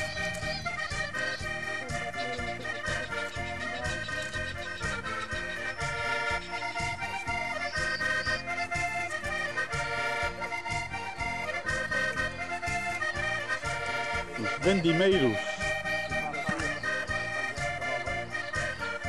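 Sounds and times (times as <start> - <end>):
concertina folk melody: 0.0 - 19.0.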